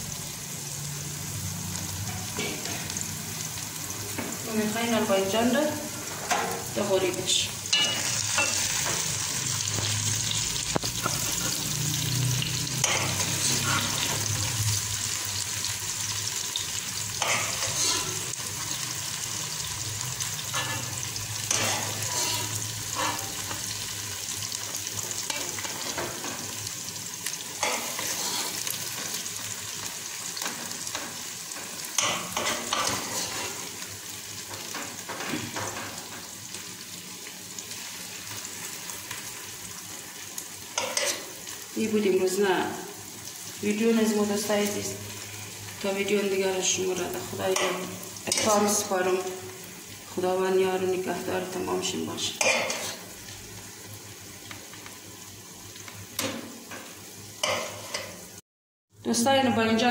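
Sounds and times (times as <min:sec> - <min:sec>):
vegetables sizzling in a pot: 0:00.0 - 0:59.9.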